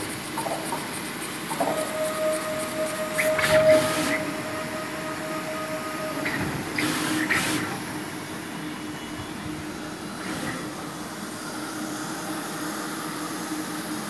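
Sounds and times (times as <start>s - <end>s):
pick-and-place machine whine: 0.0s - 11.4s
constant machine hum: 0.0s - 14.0s.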